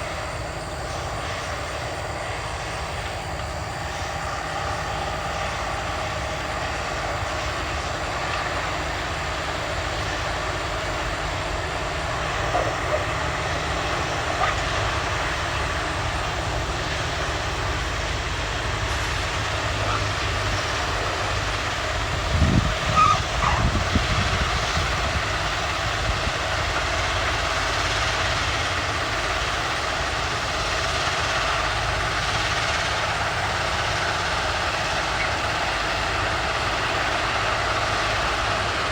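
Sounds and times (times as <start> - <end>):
heavy machinery noise: 0.0 - 38.9.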